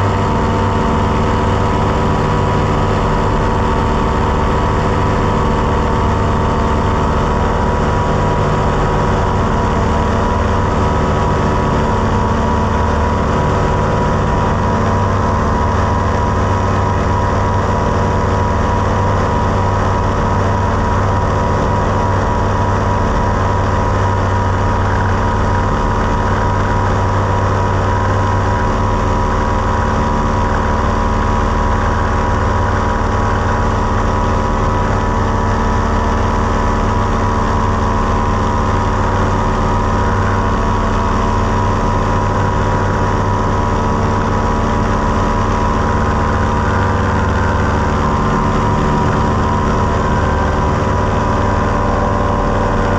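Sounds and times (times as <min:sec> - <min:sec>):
engine and propeller running: 0:00.0 - 0:52.9.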